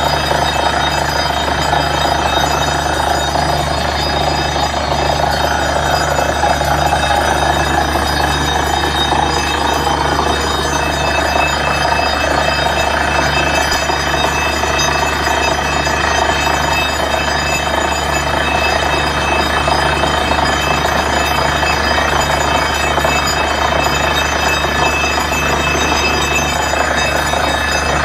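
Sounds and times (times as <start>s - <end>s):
drilling rig droning: 0.0s - 28.0s.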